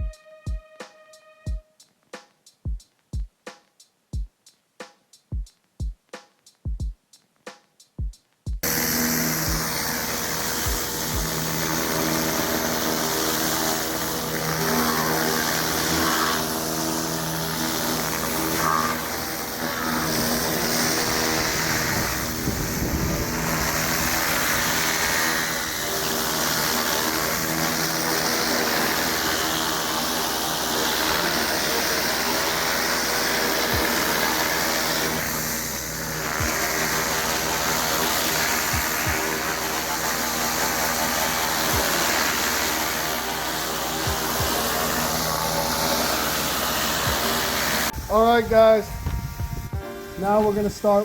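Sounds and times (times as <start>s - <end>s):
high-pressure water spray hissing: 8.6s - 51.0s
pressure washer engine running: 8.6s - 51.0s.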